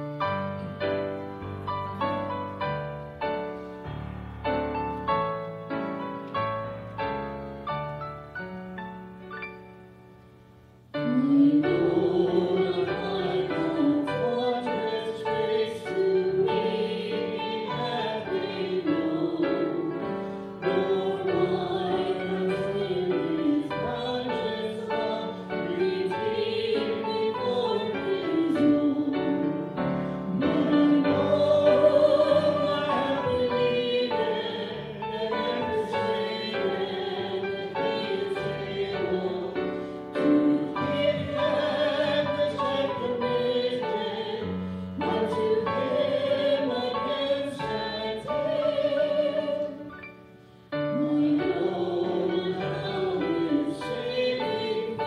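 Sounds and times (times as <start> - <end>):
hymn singing: 10.9 - 55.0.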